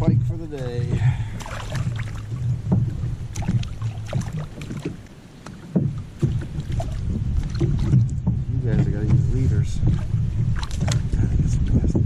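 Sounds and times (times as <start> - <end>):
wind buffeting microphone: 0.0 - 12.0
small water splashes: 0.5 - 11.4.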